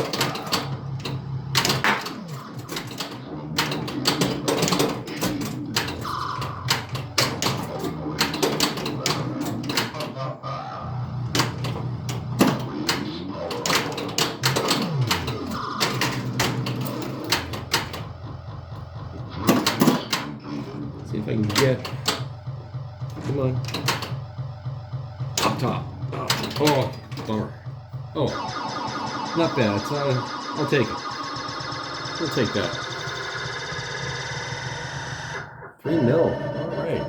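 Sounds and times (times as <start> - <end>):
pinball flippers and bumpers clacking: 0.0 - 35.4
electronic game sound effects: 0.0 - 37.0.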